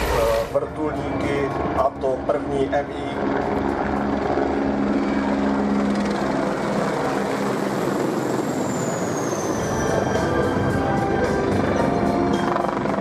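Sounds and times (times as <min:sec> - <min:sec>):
helicopter rotor and turbine: 0:00.0 - 0:13.0
high turbine whine: 0:00.0 - 0:13.0.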